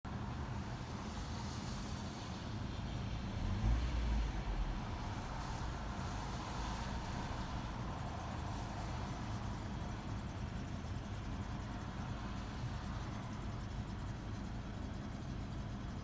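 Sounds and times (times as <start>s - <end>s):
car engine idling with rattle: 0.1s - 16.0s.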